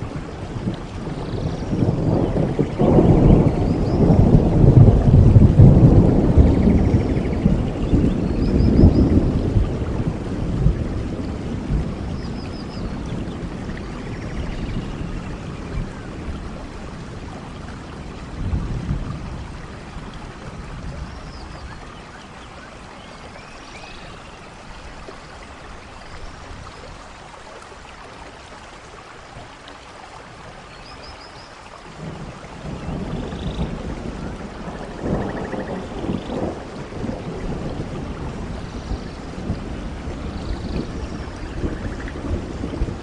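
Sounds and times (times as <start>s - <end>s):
low thunder rumbling: 0.0s - 23.4s, 31.9s - 43.0s
steady rain in forest: 0.0s - 43.0s.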